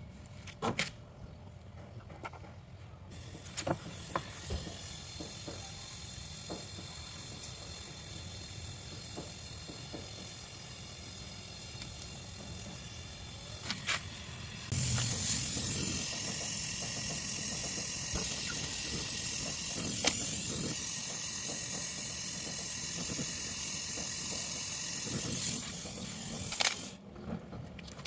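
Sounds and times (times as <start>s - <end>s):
pressurised gas hissing: 3.1s - 27.0s.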